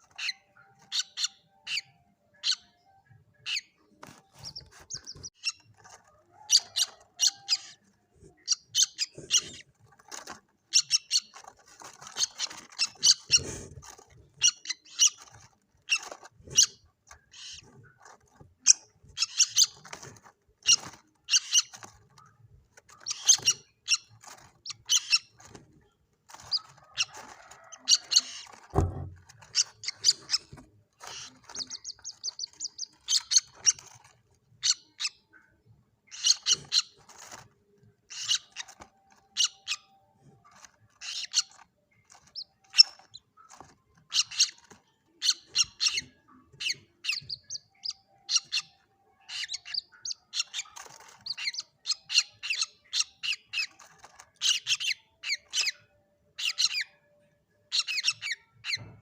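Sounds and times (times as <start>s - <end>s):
bird chicks peeping: 0.0s - 59.0s.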